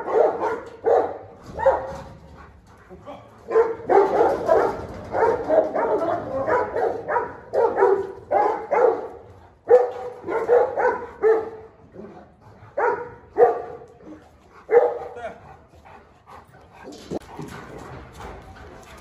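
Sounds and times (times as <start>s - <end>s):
large dogs barking deeply: 0.0s - 19.0s.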